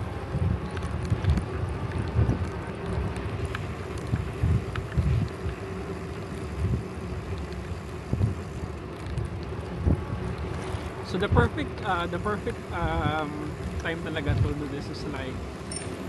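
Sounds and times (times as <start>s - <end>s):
wind buffeting microphone: 0.0s - 15.3s.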